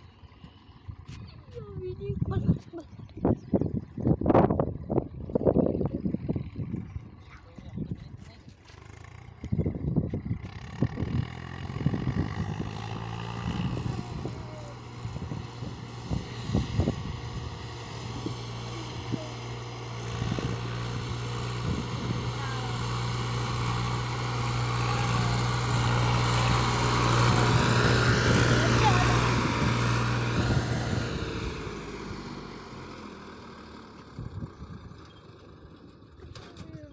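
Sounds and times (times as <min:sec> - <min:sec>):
diesel tractor engines droning: 0:00.0 - 0:36.9.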